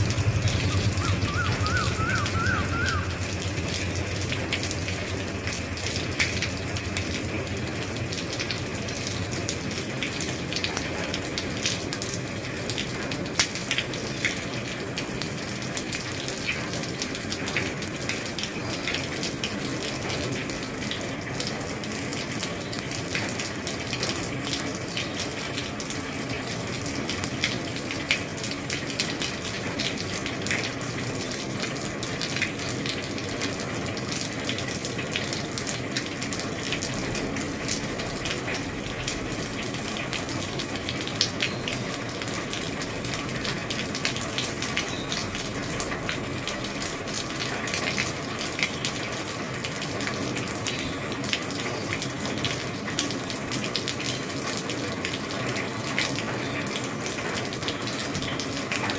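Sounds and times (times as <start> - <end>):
heavy rain on a roof: 0.0 - 58.9.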